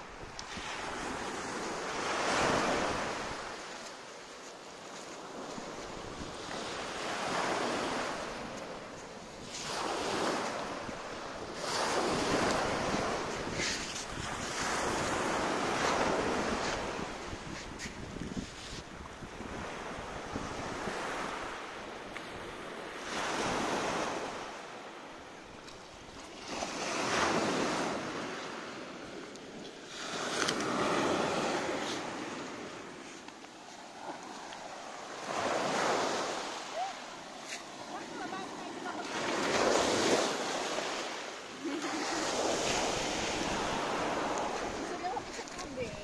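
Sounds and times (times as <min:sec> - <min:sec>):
surf washing on pebble beach: 0:00.0 - 0:46.0.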